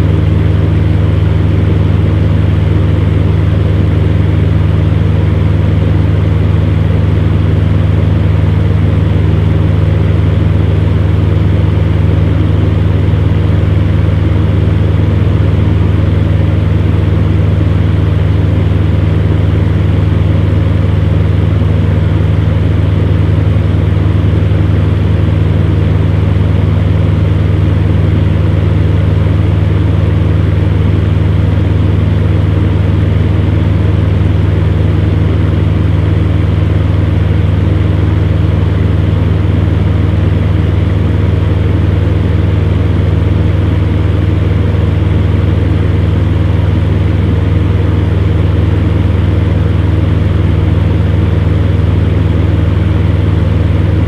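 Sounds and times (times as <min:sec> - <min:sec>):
electric fan heater running: 0:00.0 - 0:54.0.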